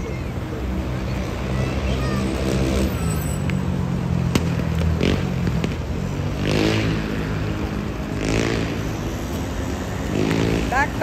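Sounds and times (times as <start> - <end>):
passing cars hiss: 0.0 - 11.0.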